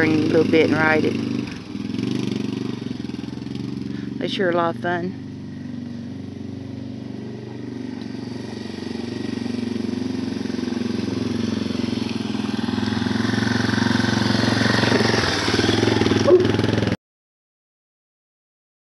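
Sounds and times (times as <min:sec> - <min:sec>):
off-road bike engine running: 0:00.0 - 0:17.0.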